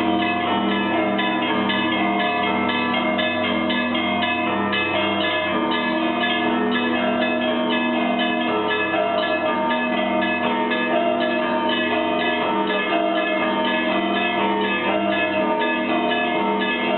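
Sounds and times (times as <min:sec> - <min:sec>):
church bells pealing: 0:00.0 - 0:16.9.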